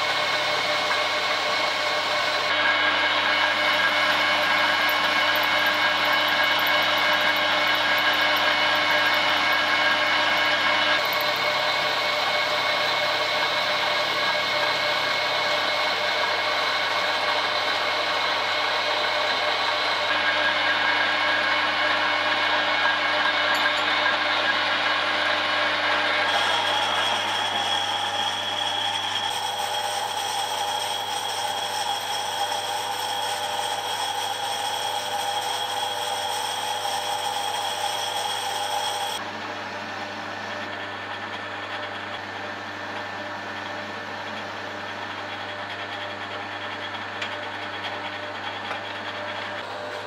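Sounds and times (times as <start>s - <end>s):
metal lathe whining: 0.0s - 50.0s.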